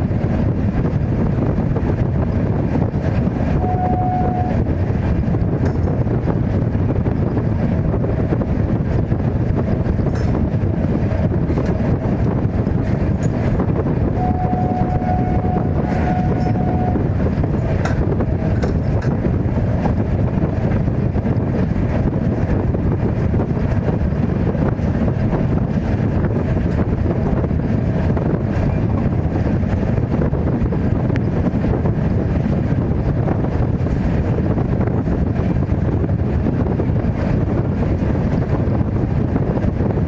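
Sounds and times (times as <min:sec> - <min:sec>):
train running at speed: 0:00.0 - 0:40.0
wind buffeting microphone: 0:00.0 - 0:40.0.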